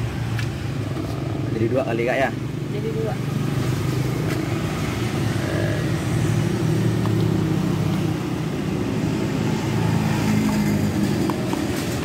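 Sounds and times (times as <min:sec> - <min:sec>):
road traffic engine rumble: 0:00.0 - 0:12.0.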